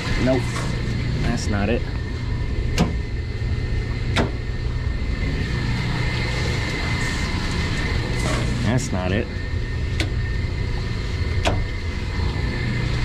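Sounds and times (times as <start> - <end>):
pumps and machinery humming: 0.0 - 13.0
thin steady whine: 0.0 - 13.0.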